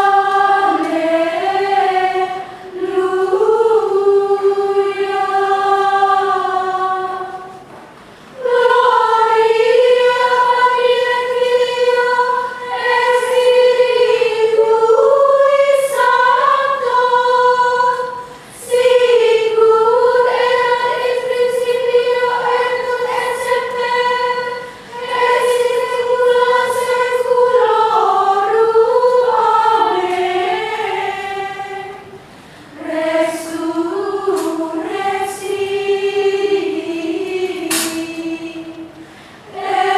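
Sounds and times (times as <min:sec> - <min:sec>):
women's choir chanting: 0:00.0 - 0:07.7, 0:08.4 - 0:39.9.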